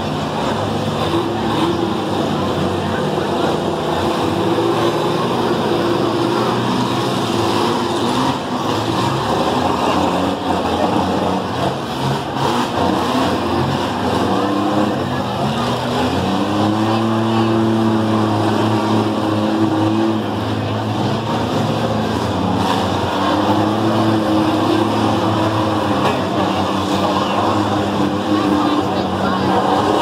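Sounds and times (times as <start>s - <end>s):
minivan engines revving: 0.0s - 30.0s.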